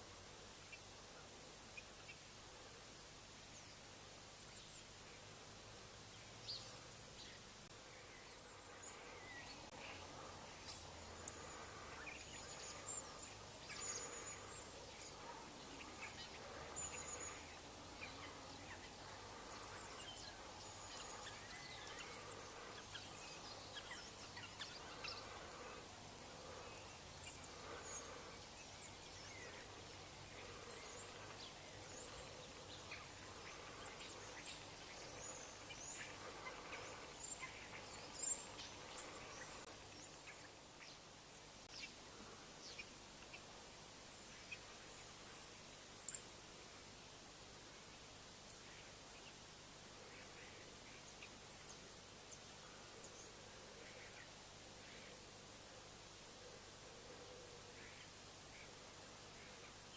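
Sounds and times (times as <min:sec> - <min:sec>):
faint background noise: 0:00.0 - 0:59.9.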